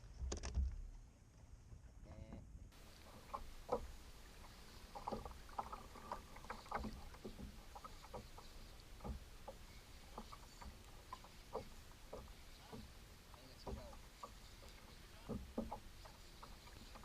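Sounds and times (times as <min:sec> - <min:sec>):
water lapping against kayak hull: 0:02.7 - 0:17.0.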